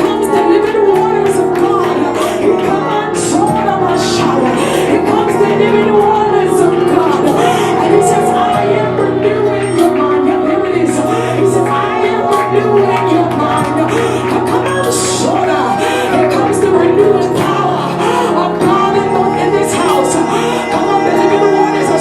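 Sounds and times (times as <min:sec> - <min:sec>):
low keyboard chords: 0:00.0 - 0:22.0
voices singing and calling: 0:00.1 - 0:22.0.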